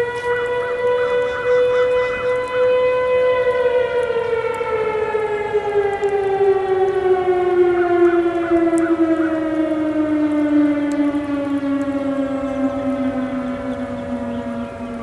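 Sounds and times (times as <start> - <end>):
distant warning siren: 0.0 - 15.0.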